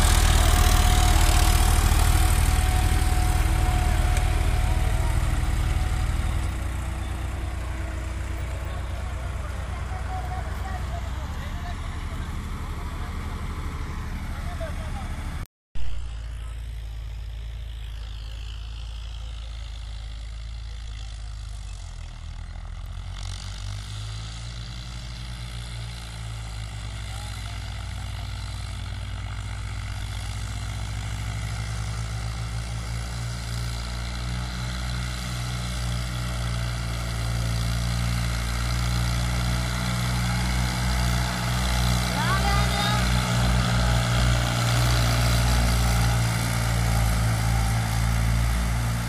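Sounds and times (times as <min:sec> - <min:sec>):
tractor diesel engines under load: 0:00.0 - 0:49.0.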